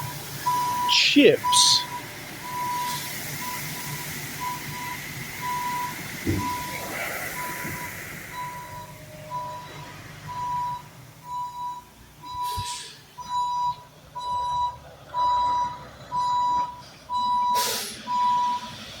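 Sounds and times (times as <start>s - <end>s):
truck backup alarm beeping: 0.0s - 19.0s.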